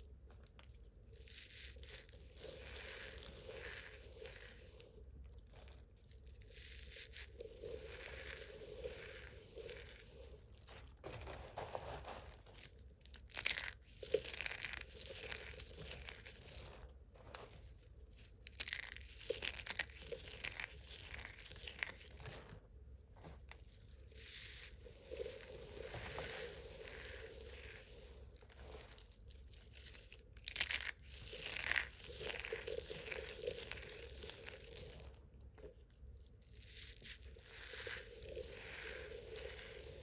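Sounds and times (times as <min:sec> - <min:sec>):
soap crunching and crumbling: 0:00.1 - 0:11.1, 0:11.8 - 0:22.7, 0:23.4 - 0:40.0.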